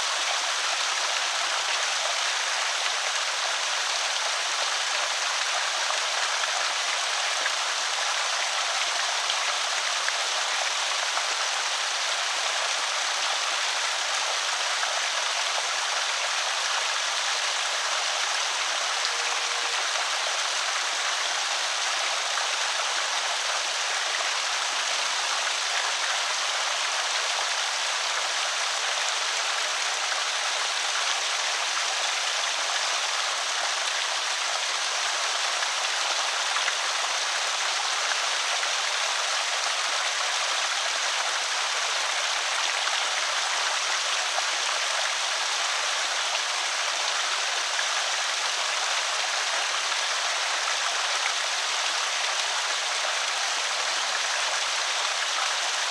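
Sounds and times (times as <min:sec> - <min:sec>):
water pouring over spillway: 0:00.0 - 0:55.9.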